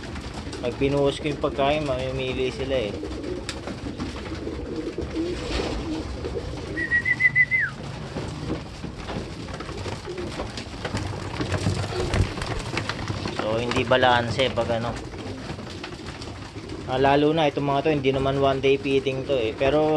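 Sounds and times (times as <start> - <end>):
pigeons cooing: 0.0 - 19.9.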